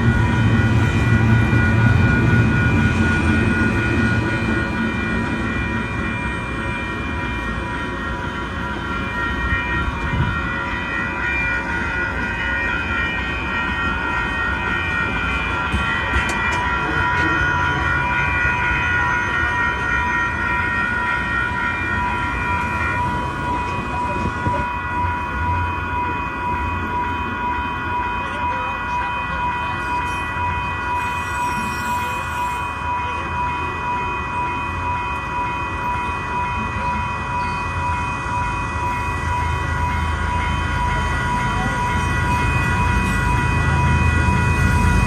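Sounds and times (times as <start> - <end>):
crossing bell ringing: 0.0 - 45.0
train rumbling: 0.0 - 45.0.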